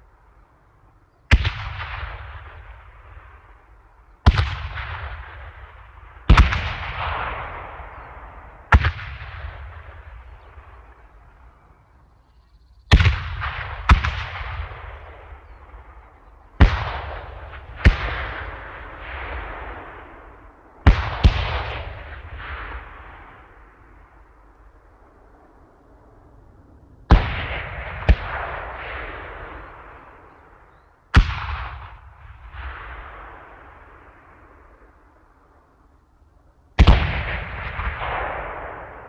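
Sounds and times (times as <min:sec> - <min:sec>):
explosions with rumbling echo: 0:01.3 - 0:11.7, 0:12.9 - 0:35.9, 0:36.7 - 0:39.0.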